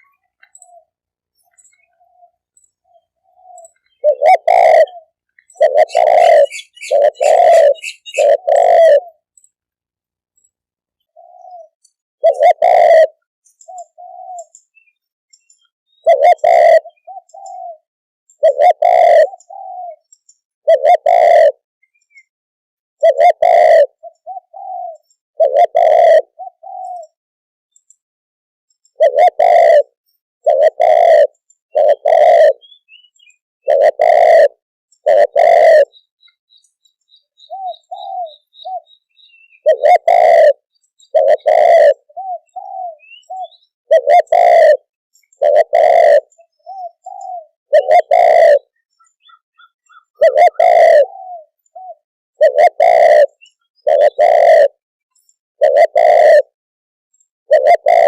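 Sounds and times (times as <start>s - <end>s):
dove cooing: 0.0s - 9.4s, 11.0s - 14.9s, 16.0s - 22.2s, 23.0s - 27.2s, 29.0s - 36.2s, 37.4s - 54.8s, 55.6s - 56.6s, 57.5s - 58.0s.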